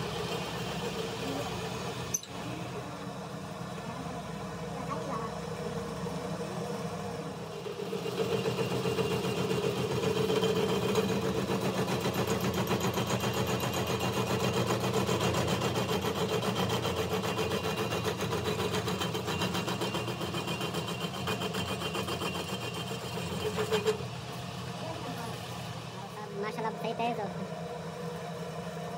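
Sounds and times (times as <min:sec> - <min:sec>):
metal lathe running: 0:00.0 - 0:28.9.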